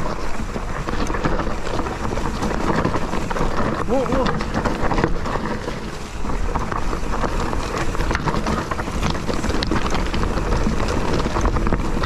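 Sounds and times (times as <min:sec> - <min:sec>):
bike rattling and clicking: 0:00.0 - 0:12.0
bike tyres rumbling on dirt: 0:00.0 - 0:12.0
wind buffeting microphone: 0:00.0 - 0:12.0.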